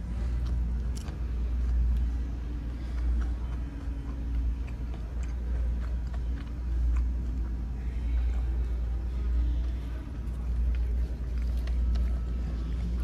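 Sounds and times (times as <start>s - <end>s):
person chewing crunchy food: 0.0s - 13.0s
steady low rumble: 0.0s - 13.0s.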